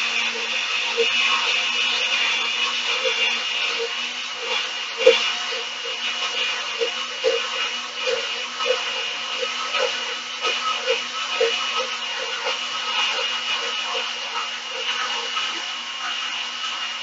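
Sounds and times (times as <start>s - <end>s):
blender whining: 0.0s - 17.0s.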